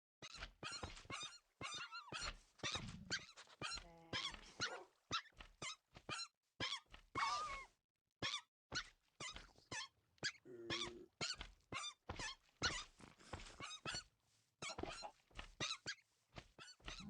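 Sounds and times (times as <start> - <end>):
foxes whining squeaks: 0.2 - 7.6, 8.2 - 17.0.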